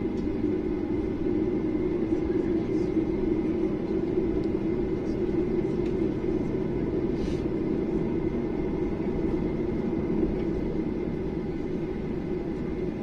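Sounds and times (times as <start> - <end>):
airplane cabin drone and rumble: 0.0 - 13.0.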